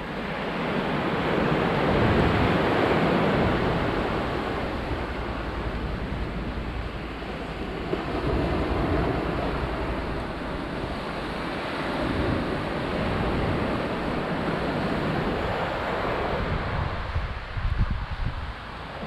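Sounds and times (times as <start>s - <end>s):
surf washing onto beach: 0.0s - 19.0s
wind rumbling on microphone: 0.0s - 19.0s.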